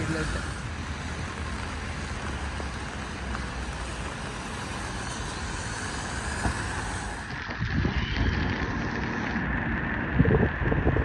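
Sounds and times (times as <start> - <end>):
rain: 0.0 - 11.0
road traffic on wet street: 0.0 - 11.0
wind rumble on microphone: 0.0 - 11.0.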